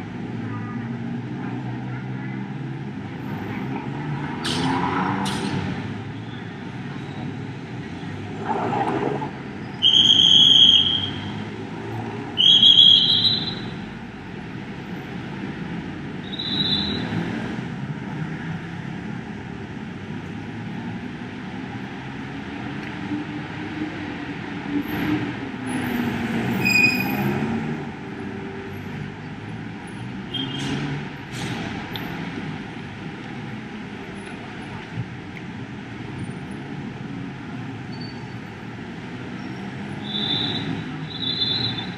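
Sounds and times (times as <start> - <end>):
city street traffic: 0.0 - 41.9.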